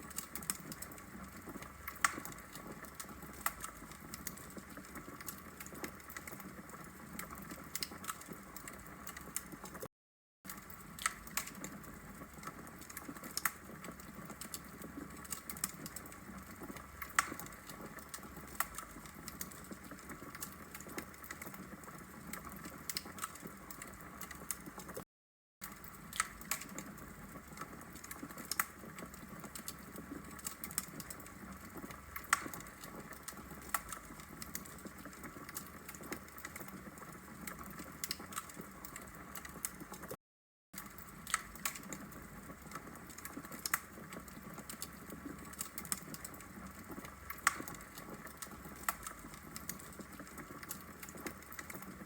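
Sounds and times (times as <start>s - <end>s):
wood logs crackling and popping: 0.0s - 9.9s, 10.5s - 25.0s, 25.6s - 40.2s, 40.8s - 52.0s.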